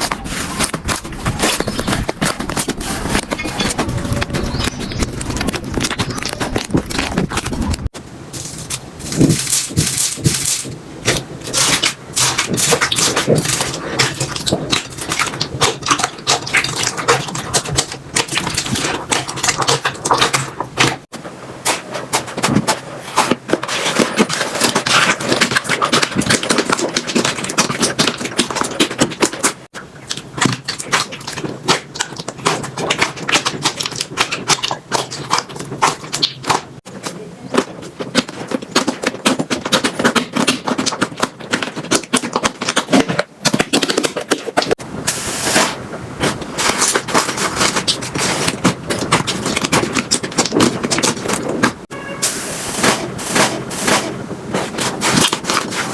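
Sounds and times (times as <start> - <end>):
slime crackling and popping: 0.0 - 55.9.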